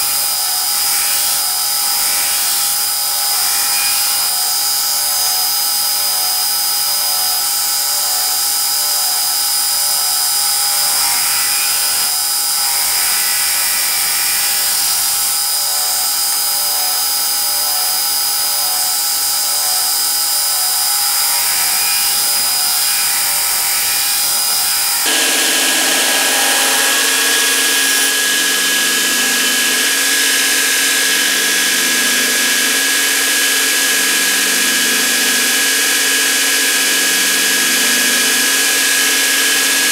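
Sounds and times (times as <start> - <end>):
machine motor droning: 0.0 - 32.8.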